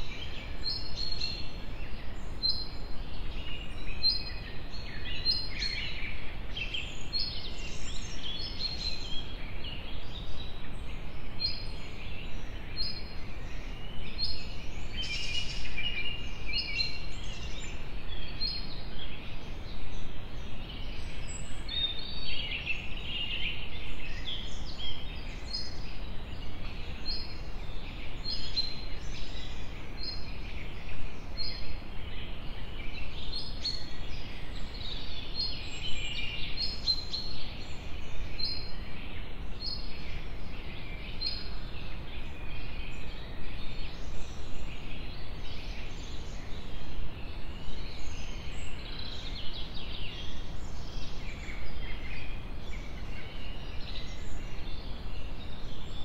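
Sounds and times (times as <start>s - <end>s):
birds twittering: 0.0s - 56.0s
low outdoor background noise: 0.0s - 56.0s.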